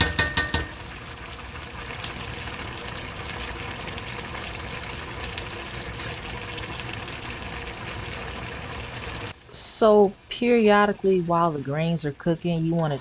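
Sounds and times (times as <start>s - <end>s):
pot of water boiling: 0.0s - 13.0s.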